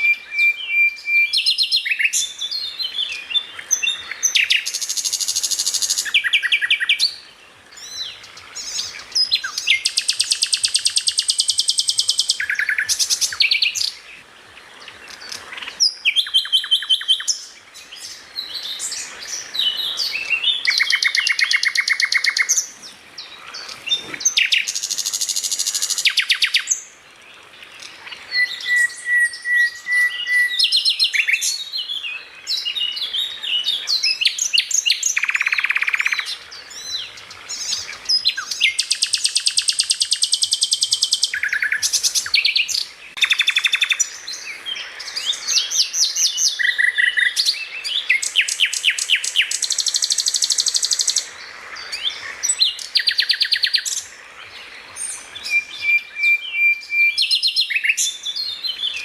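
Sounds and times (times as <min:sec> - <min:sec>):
songbird singing trills: 0:00.0 - 0:59.0.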